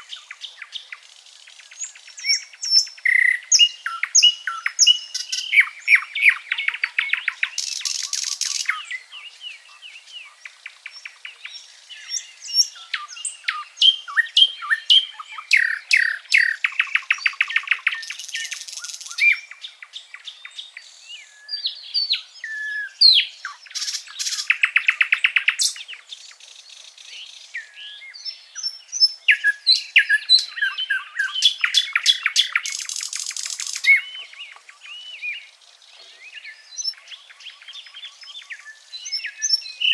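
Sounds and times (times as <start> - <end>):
bird trilling song: 0.0 - 39.9
songbirds chirping and whistling: 0.0 - 39.9.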